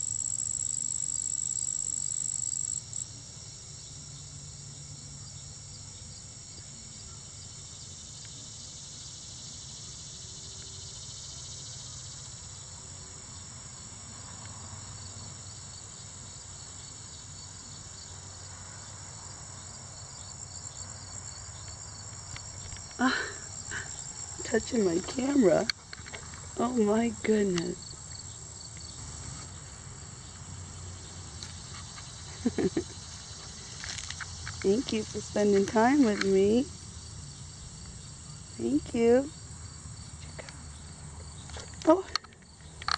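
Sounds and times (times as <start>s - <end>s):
crickets and insects chirring: 0.0s - 42.9s
loud high insect trill: 0.0s - 42.9s.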